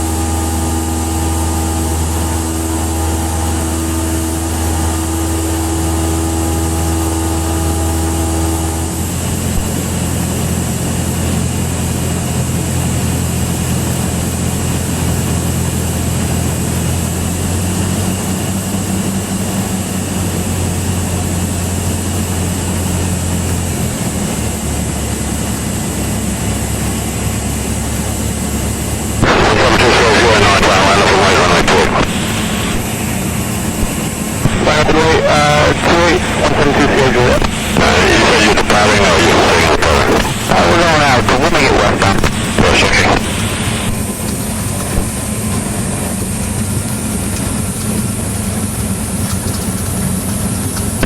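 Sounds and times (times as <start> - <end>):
propeller plane engine in cabin: 0.0 - 51.0.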